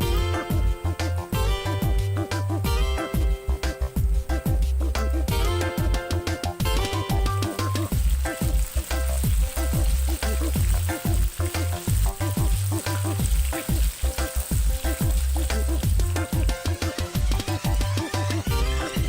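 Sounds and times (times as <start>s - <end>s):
background music with beat: 0.0s - 19.0s
oil sizzling in deep fryer: 0.0s - 19.0s.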